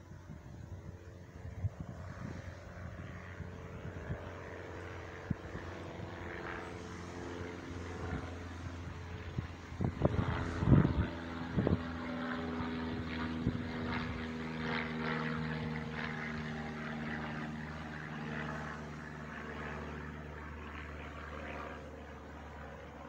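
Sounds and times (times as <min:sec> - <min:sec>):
propeller aircraft engine drone: 0:00.0 - 0:23.0.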